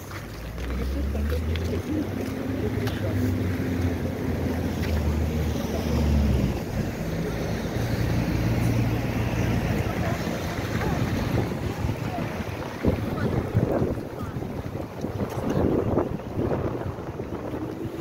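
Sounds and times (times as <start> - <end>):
vehicle engines humming: 0.0 - 18.0
wind on microphone: 3.4 - 18.0.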